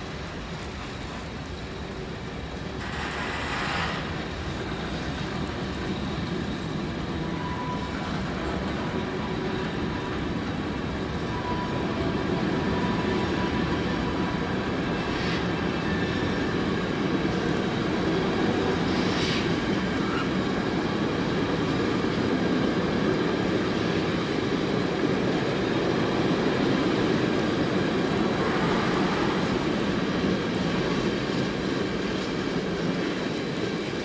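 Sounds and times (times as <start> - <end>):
steel wheels rumbling on rails: 0.0 - 34.0.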